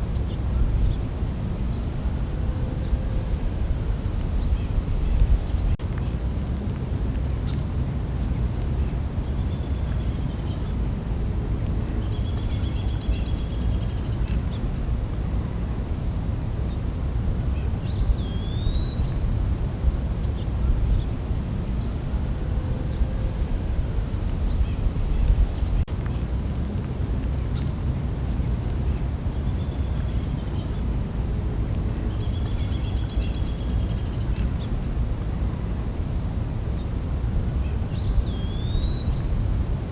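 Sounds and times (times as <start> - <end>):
cricket chirping: 0.0 - 39.9
high insect drone: 0.0 - 39.9.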